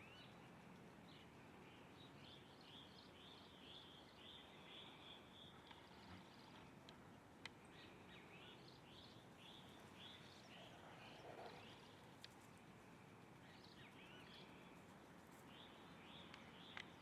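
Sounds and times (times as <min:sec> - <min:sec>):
faint background hiss: 0:00.0 - 0:17.0
faint bird song: 0:00.0 - 0:17.0.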